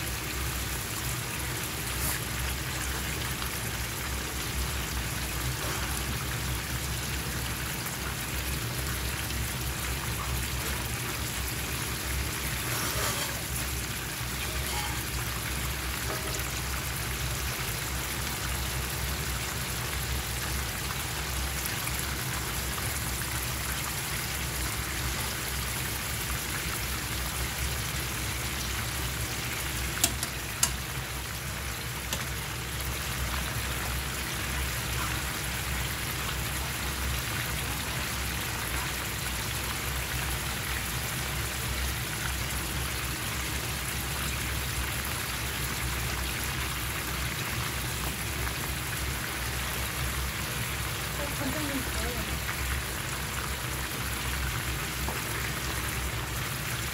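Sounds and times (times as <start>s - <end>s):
liquid boiling in frying pan: 0.0s - 56.9s.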